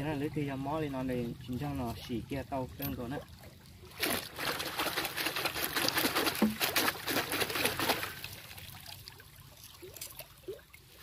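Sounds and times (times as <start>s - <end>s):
water splashing in stream: 0.9s - 11.0s.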